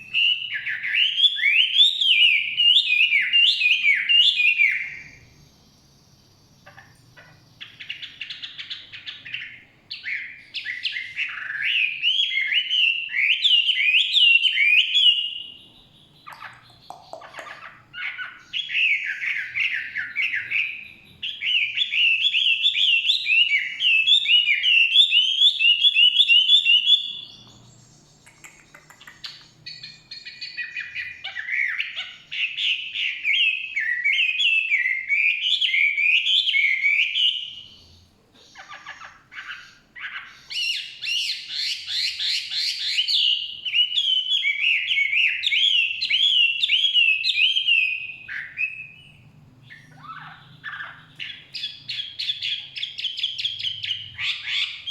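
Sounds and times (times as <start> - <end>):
bird singing whistled notes: 0.0 - 54.9.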